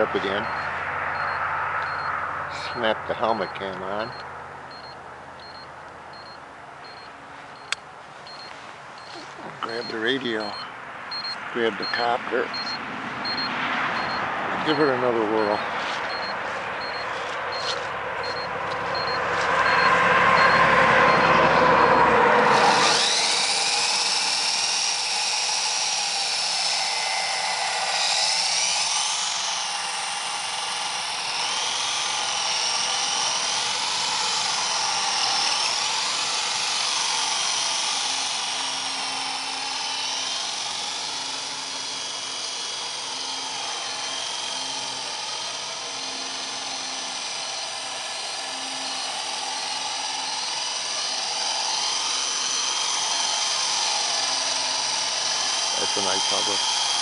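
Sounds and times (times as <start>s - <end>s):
rc helicopter motor and rotors whining: 0.0s - 57.0s.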